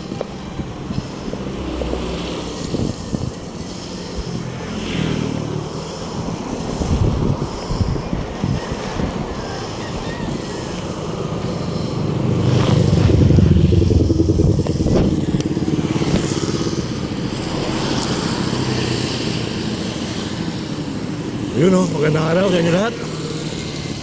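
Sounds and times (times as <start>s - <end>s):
road traffic rumble: 0.0s - 24.0s
vehicle engine passing: 0.0s - 24.0s.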